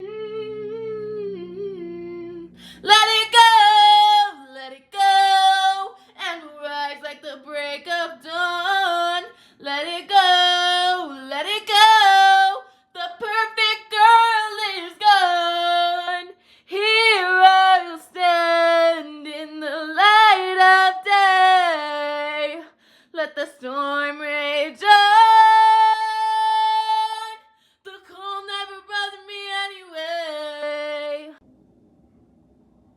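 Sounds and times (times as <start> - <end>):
woman singing alone: 0.0 - 31.4.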